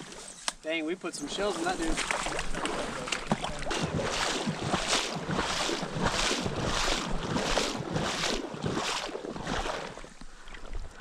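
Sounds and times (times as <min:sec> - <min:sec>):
footsteps splashing through water: 0:01.2 - 0:11.0.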